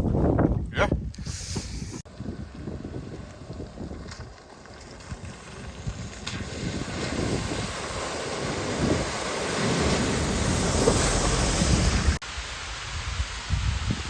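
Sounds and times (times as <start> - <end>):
wind buffeting microphone: 0.0 - 12.2, 12.8 - 14.0.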